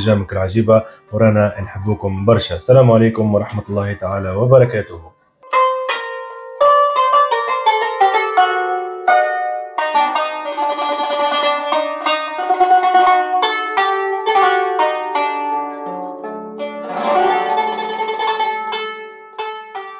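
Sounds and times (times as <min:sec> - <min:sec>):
plucked string tune: 0:00.0 - 0:19.9.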